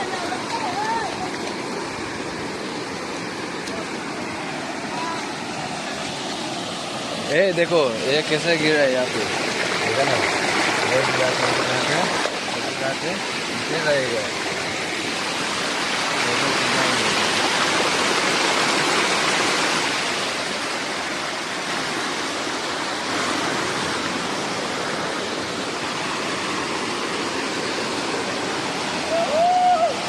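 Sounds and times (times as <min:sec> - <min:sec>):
waterfall rushing and splashing: 0:00.0 - 0:30.0.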